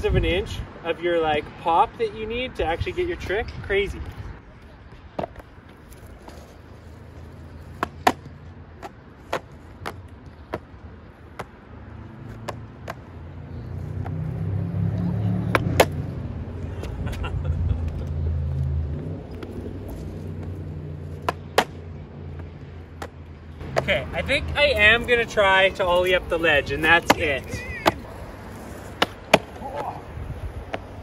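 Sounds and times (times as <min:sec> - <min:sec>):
skateboard wheels rolling on concrete: 0:00.0 - 0:31.0.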